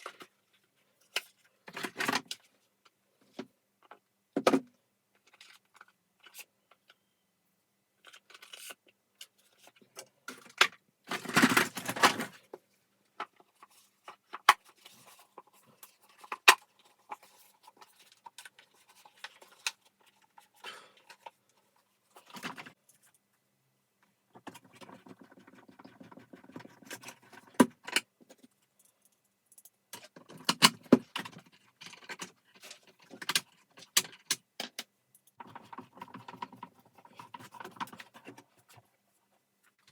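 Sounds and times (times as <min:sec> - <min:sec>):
plastic parts clicking and clattering: 0:00.0 - 0:07.0, 0:08.0 - 0:23.2, 0:24.3 - 0:39.0.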